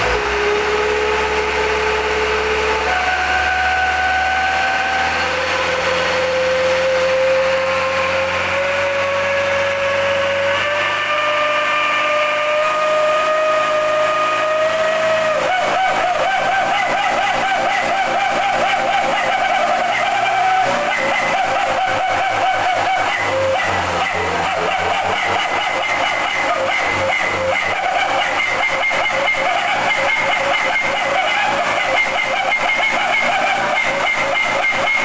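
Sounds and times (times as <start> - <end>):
howling whistle exhaust: 0.0 - 35.0
truck engine: 0.0 - 35.0.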